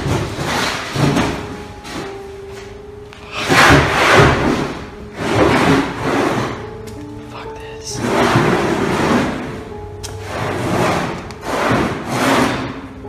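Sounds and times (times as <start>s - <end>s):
objects scraping and knocking: 0.0s - 2.3s, 3.3s - 7.1s, 7.9s - 12.9s.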